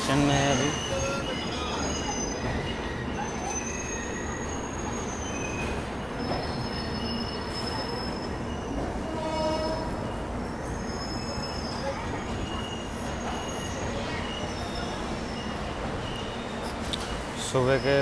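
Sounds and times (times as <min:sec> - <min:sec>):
train wheels squealing: 0:00.0 - 0:18.0.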